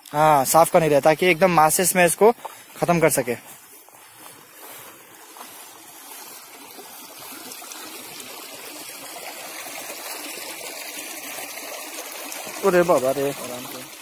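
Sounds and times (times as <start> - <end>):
stream trickling over stones: 0.0 - 14.0.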